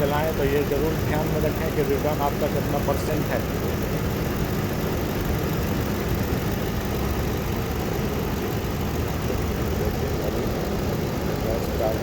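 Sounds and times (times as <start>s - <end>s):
air-conditioning compressor running: 0.0s - 12.0s
car engine idling: 0.0s - 12.0s.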